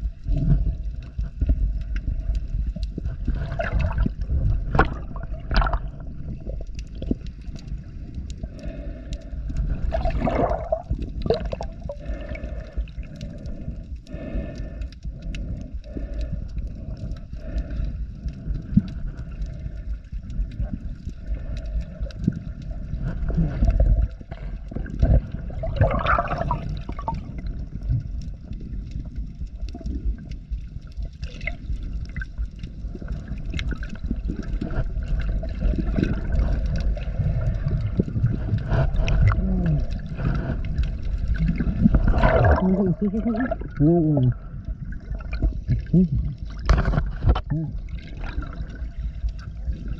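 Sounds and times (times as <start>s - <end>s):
underwater sloshing and gurgling: 0.0s - 49.9s.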